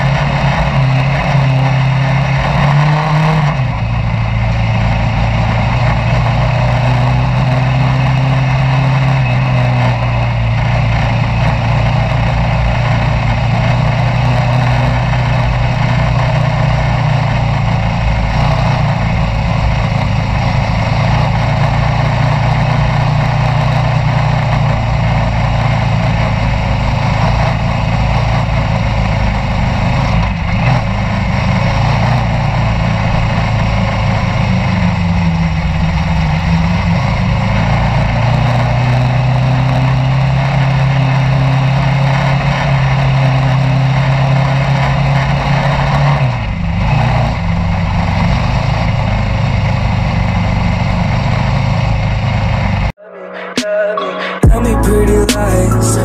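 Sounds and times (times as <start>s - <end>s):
racing buggy engine running hard: 0.0s - 53.0s
track noise: 0.0s - 56.0s.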